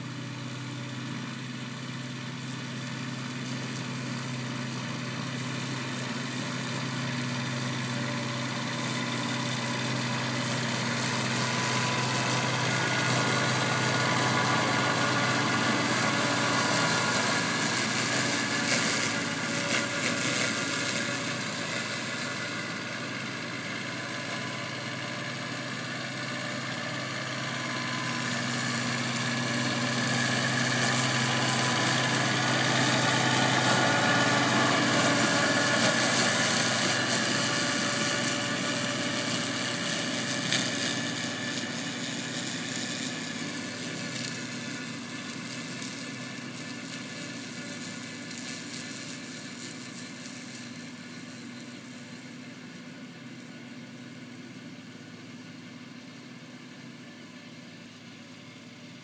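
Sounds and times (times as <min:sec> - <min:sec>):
flail mower rushing whir: 0:00.0 - 0:59.0
tractor diesel engine running: 0:00.0 - 0:59.0.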